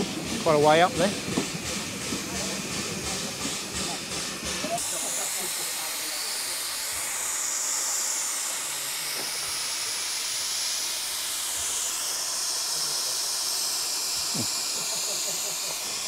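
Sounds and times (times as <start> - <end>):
steam hissing from safety valve: 0.0 - 16.0.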